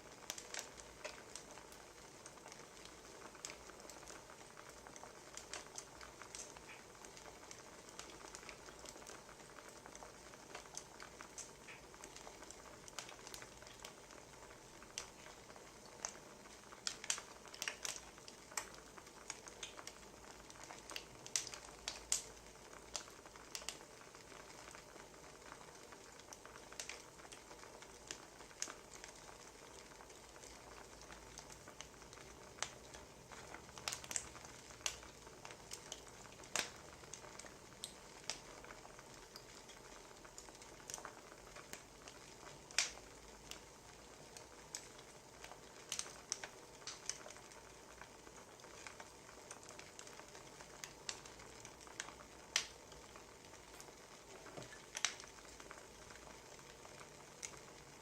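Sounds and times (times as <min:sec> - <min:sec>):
soft steady hiss: 0:00.0 - 0:58.0
wood fire crackling: 0:00.0 - 0:58.0.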